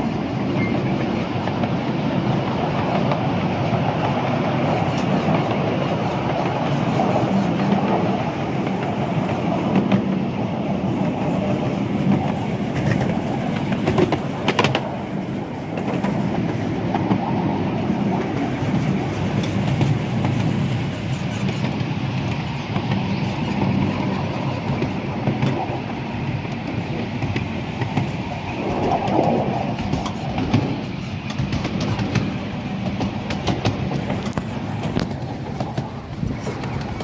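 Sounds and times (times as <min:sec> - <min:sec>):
railway carriages running on track: 0:00.0 - 0:37.0.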